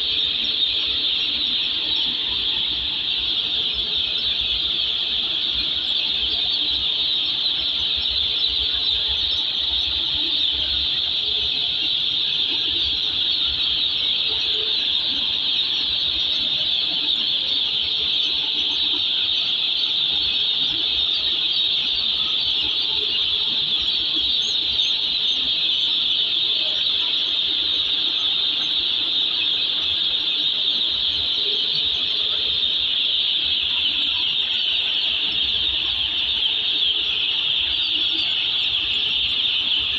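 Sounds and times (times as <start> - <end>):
chicks peeping: 0.1 - 39.9.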